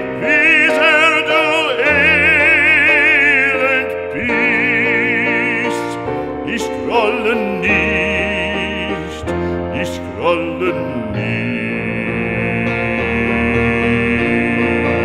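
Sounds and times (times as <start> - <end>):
classical singing voice: 0.0 - 15.0
piano accompaniment: 0.0 - 15.0.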